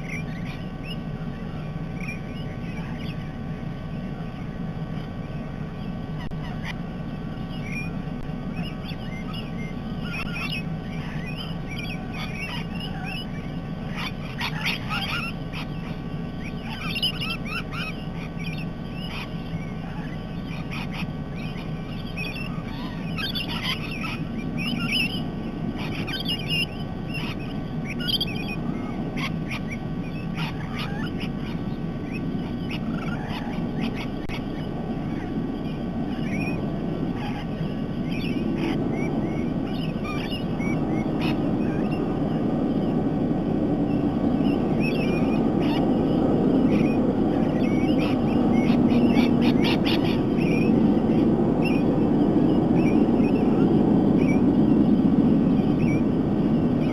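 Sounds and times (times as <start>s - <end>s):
parrots chirping and squawking: 0.0s - 56.9s
steady low rumble: 0.0s - 56.9s.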